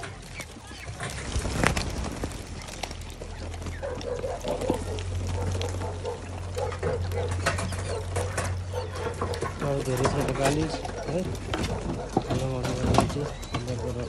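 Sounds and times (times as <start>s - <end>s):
birds scuffing on stony ground: 0.0s - 14.0s.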